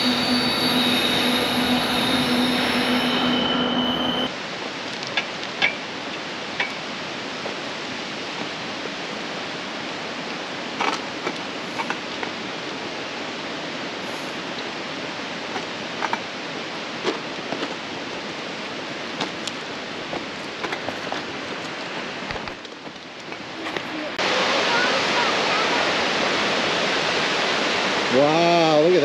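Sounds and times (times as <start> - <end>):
distant falling water: 0.0 - 29.0.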